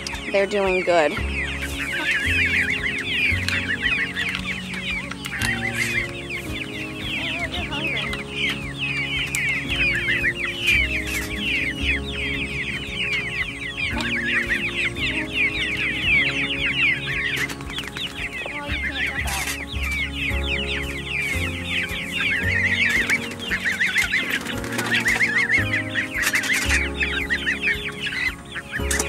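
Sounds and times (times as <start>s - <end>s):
background music with held notes: 0.0s - 29.0s
chicks peeping: 0.0s - 29.0s.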